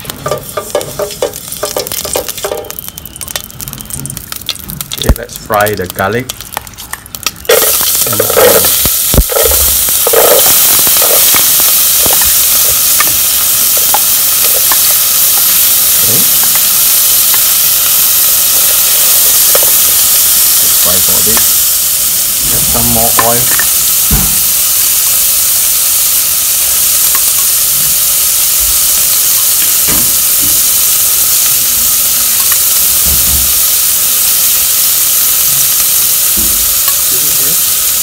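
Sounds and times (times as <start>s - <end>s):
onion and garlic sizzling in oil: 0.0s - 38.0s.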